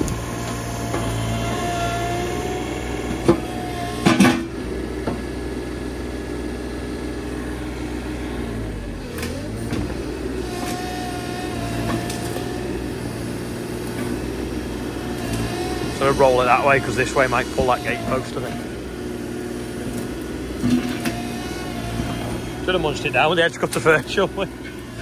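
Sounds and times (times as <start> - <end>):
mini digger engine with whine: 0.0 - 25.0.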